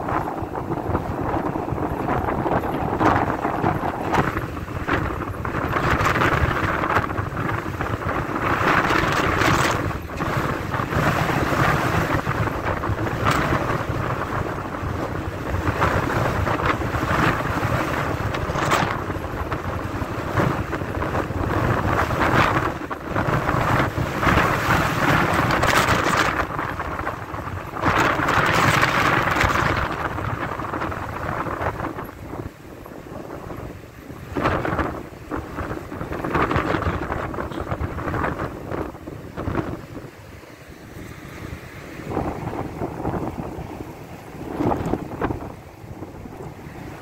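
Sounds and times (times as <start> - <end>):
gusty wind buffeting microphone: 0.0 - 47.0.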